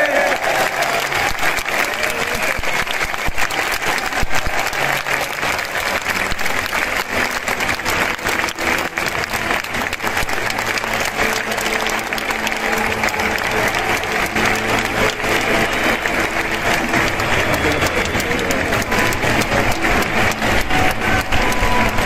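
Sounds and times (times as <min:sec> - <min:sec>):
crowd clapping: 0:00.0 - 0:22.0.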